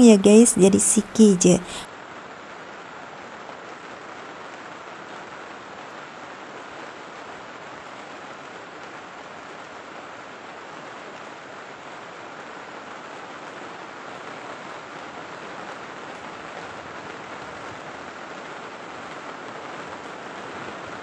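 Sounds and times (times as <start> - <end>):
heavy rain on plastic roof: 1.8 - 21.0.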